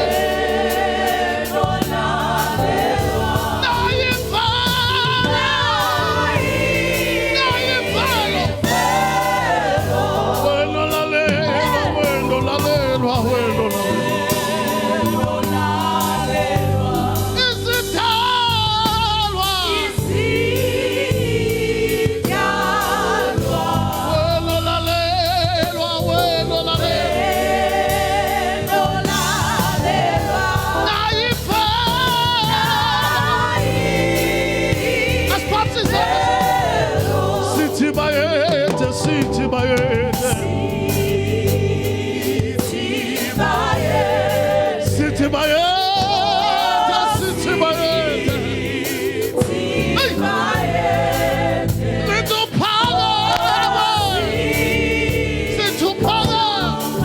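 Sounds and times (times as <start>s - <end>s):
gospel choir singing: 0.0s - 57.0s
instrumental backing: 0.0s - 57.0s.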